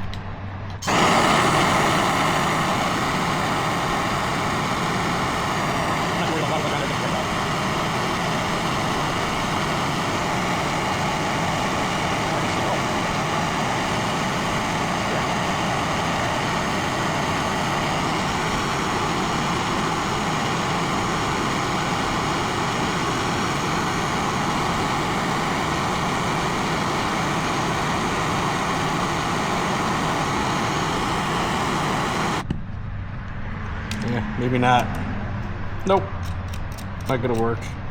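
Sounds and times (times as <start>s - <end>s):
gas torch roaring: 0.7s - 32.5s.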